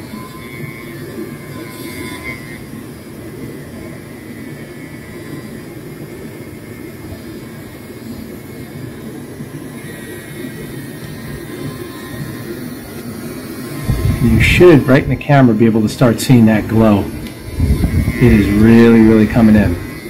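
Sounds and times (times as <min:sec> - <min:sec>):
rotary tool whirring: 0:00.0 - 0:20.0.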